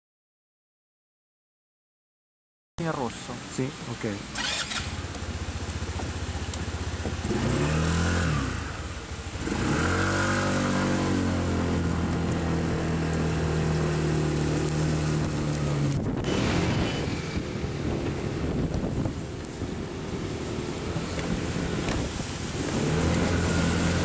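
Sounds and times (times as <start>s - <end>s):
scooter engine pulling away: 4.3s - 24.0s.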